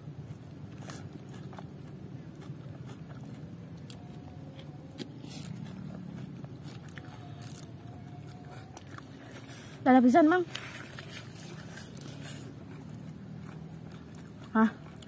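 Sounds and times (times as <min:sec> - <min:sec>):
person chewing food: 0:00.0 - 0:09.8, 0:10.4 - 0:15.0
steady low hum: 0:00.0 - 0:15.0.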